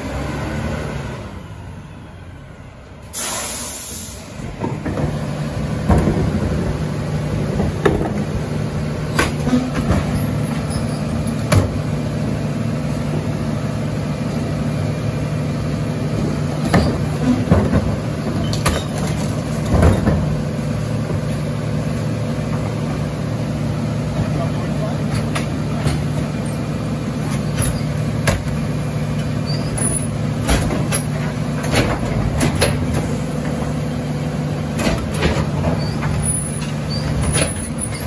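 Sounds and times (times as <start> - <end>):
garbage truck engine running: 0.0 - 38.0.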